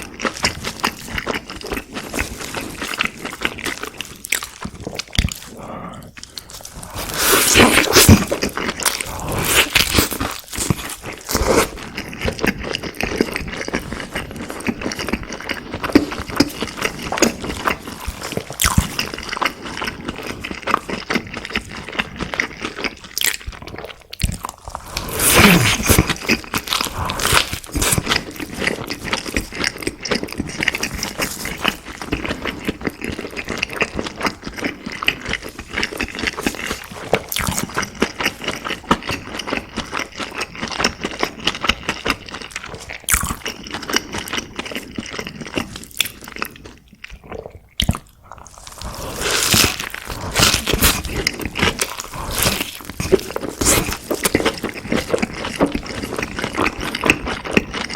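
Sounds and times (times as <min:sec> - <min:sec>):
crunchy chewing of fried food: 0:00.0 - 0:57.9.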